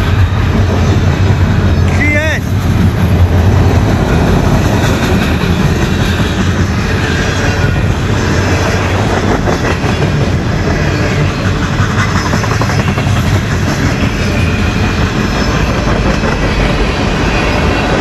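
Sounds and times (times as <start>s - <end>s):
clickety-clack over rail joints: 0.0s - 18.0s
train wheels rumbling on rails: 0.0s - 18.0s.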